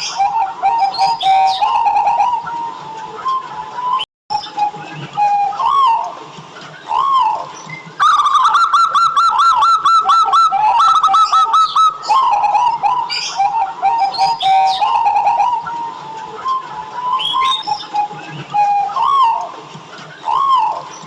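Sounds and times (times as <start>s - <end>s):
dove cooing: 0.0s - 6.2s, 6.8s - 19.5s, 20.2s - 21.0s.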